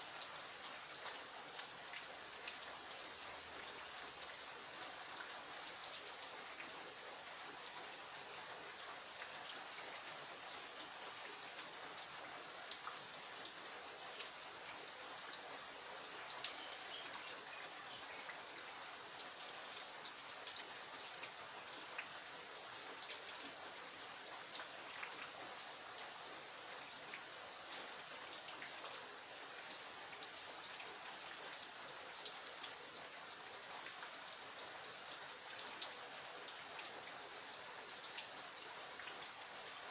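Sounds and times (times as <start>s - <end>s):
raindrops pattering on surfaces: 0.0s - 39.9s
steady rain hiss: 0.0s - 39.9s.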